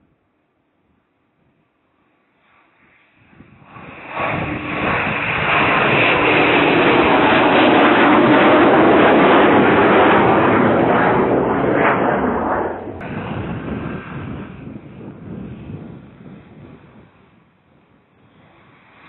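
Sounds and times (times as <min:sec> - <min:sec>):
jet aircraft flying low: 0:02.0 - 0:19.0.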